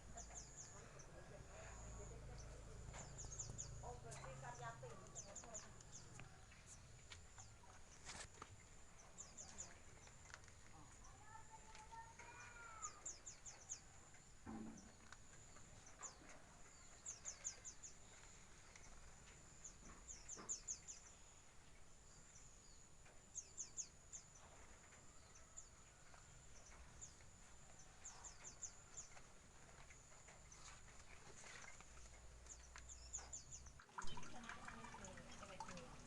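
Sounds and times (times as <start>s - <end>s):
small birds chirping faintly: 0.0s - 36.0s.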